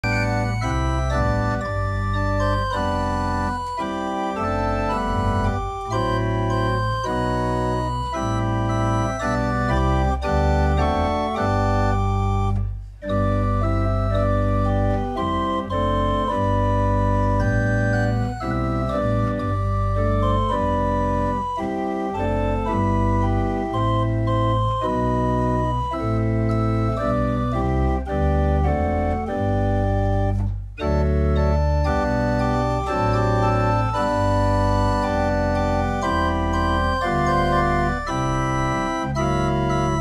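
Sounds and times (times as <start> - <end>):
pipe organ playing chords: 0.0 - 40.0.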